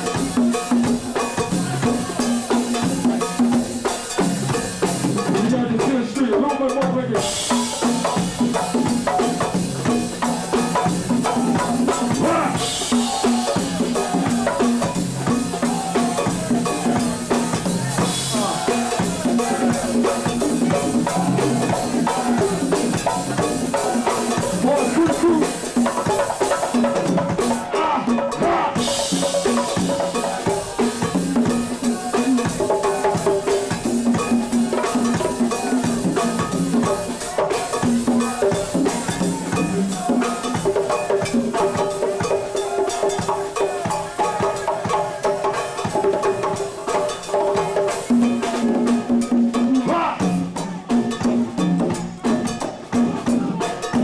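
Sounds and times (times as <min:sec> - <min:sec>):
congas groove: 0:00.0 - 0:54.0
drum kit beat: 0:00.0 - 0:54.0.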